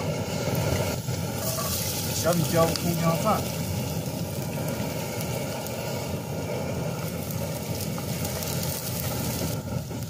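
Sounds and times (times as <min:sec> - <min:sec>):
food sizzling in oil: 0:00.0 - 0:10.0
gas stove burning: 0:00.0 - 0:10.0.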